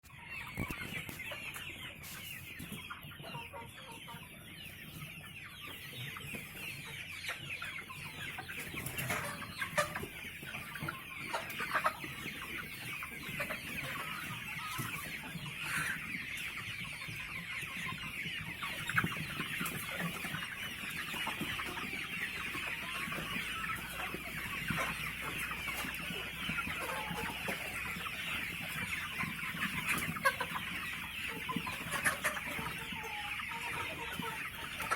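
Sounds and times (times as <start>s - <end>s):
chickens calling: 0.0s - 34.9s.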